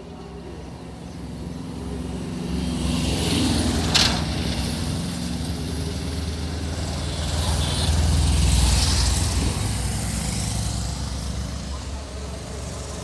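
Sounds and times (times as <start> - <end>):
motor vehicle passing: 1.3 - 13.0.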